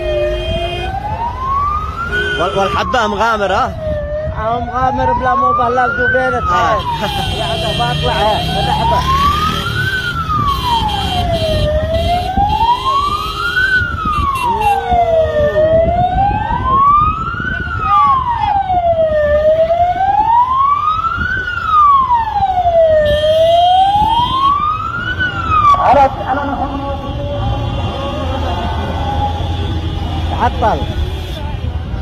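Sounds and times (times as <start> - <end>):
emergency siren wailing: 0.0 - 31.1.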